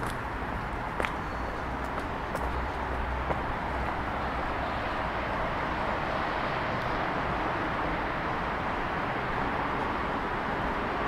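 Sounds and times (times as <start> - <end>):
distant city road traffic: 0.0 - 11.0.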